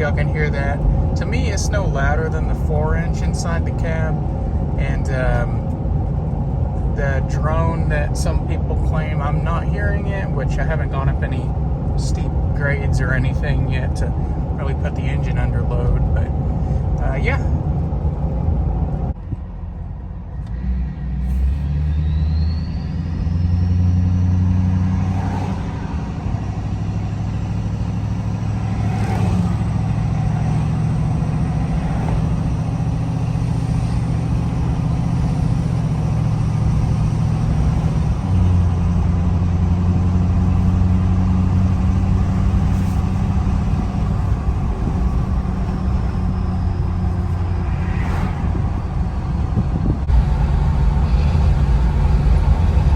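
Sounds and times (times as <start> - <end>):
diesel truck engine driving: 0.0 - 52.9.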